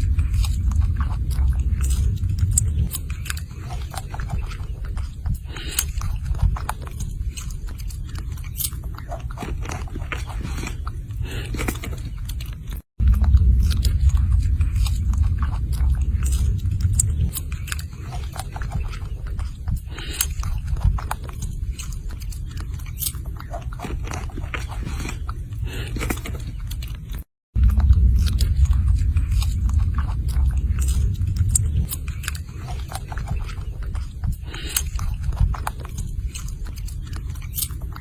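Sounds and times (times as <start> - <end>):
low rumble: 0.0 - 12.4, 13.0 - 22.9, 27.6 - 38.0
crunchy chewing: 0.0 - 38.0.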